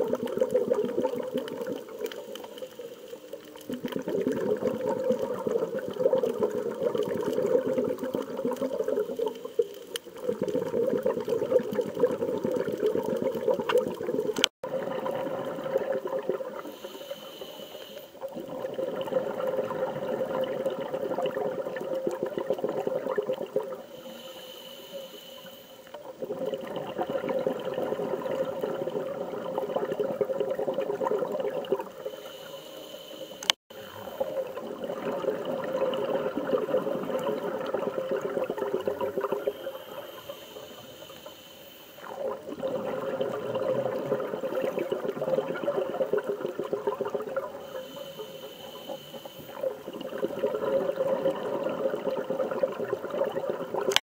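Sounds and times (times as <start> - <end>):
water rushing and bubbling: 0.0 - 16.9, 18.2 - 24.1, 25.9 - 32.4, 33.7 - 41.4, 42.0 - 54.0.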